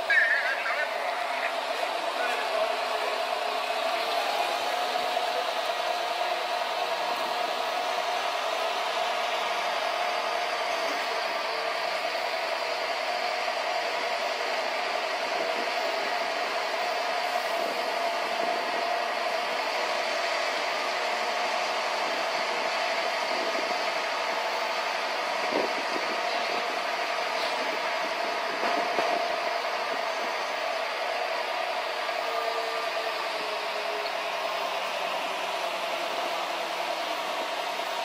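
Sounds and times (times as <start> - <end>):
crane engine and hydraulics whining: 0.0 - 38.0.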